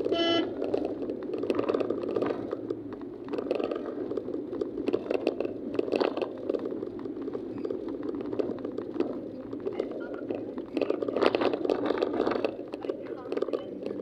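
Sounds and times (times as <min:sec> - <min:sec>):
crackle and rattle of clicks: 0:00.0 - 0:14.0
road and engine rumble: 0:00.0 - 0:14.0.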